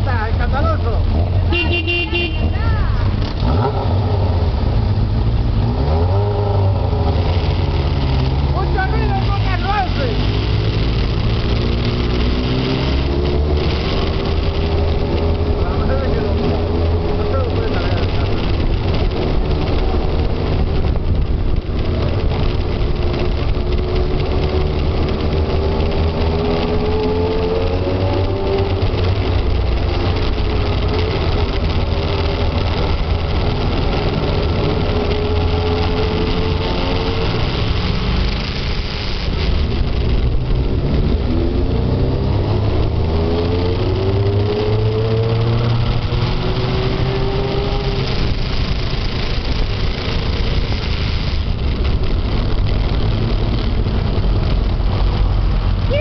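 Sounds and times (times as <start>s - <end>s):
motorcycle engine running: 6.3s - 56.0s.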